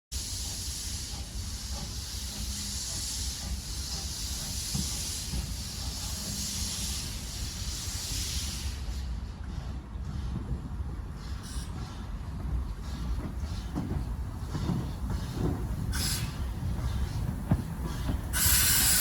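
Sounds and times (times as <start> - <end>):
steam locomotive hissing: 0.1 - 19.0.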